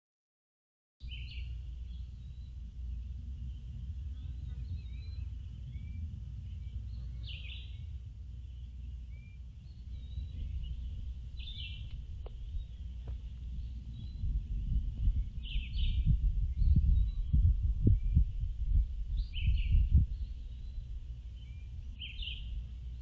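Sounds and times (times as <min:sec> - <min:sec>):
low rumble of microphone noise: 0:01.0 - 0:23.0
small birds chirping: 0:01.0 - 0:23.0.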